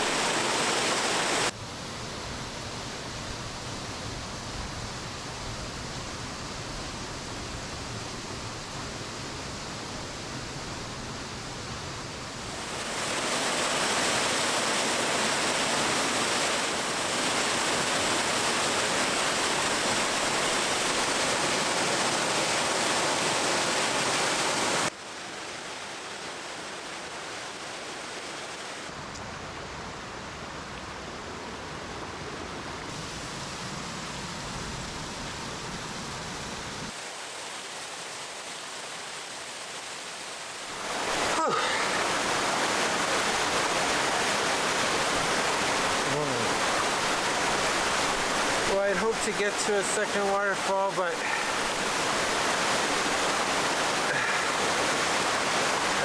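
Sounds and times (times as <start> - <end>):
waterfall roaring: 0.0 - 1.6, 2.8 - 56.0.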